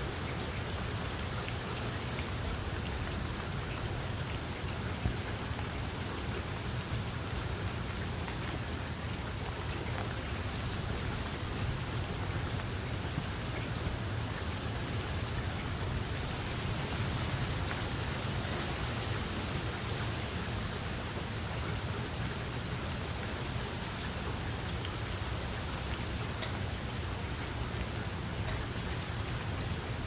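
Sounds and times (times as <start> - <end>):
steady rain hiss: 0.0 - 30.0
raindrop ticks: 0.1 - 30.0.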